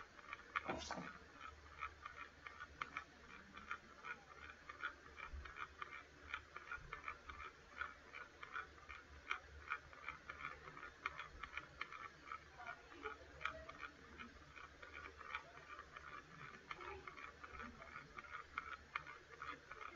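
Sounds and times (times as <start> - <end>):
faint ticking and crackling: 0.0 - 19.9.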